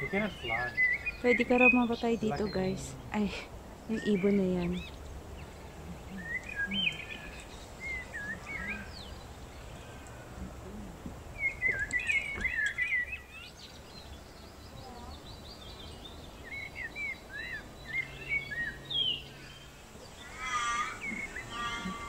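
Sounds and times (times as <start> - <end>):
low steady background: 0.0 - 22.0
small birds chirping: 0.0 - 22.0.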